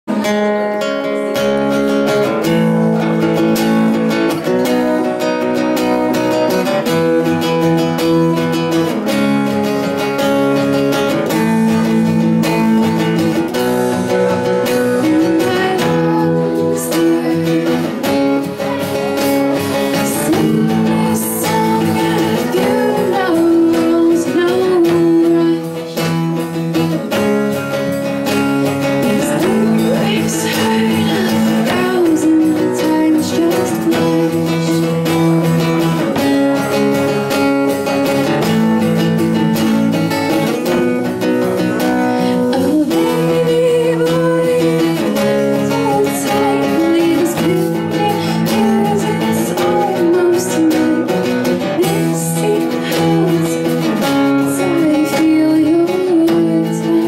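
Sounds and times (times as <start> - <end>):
acoustic guitars strumming: 0.0 - 57.0
woman singing: 0.1 - 9.2, 10.6 - 36.7, 40.0 - 57.0.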